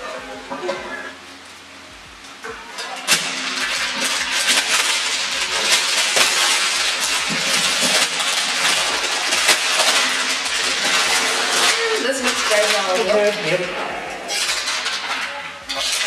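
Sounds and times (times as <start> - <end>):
plastic wrapping crinkling and tearing: 2.4 - 16.0.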